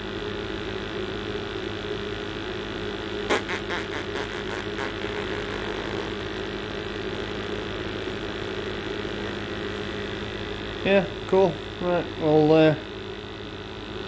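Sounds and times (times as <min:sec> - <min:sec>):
gas boiler burner and fan hum: 0:00.0 - 0:03.3, 0:04.4 - 0:14.0.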